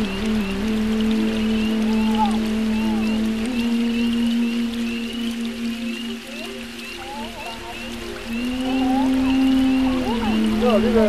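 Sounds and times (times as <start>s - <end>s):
water washing along hull: 0.0s - 11.0s.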